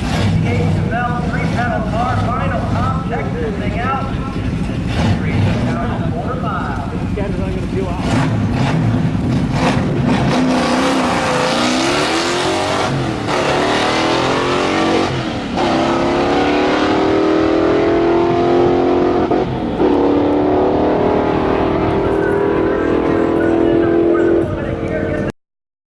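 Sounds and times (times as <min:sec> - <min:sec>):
car engine accelerating: 0:00.0 - 0:25.3.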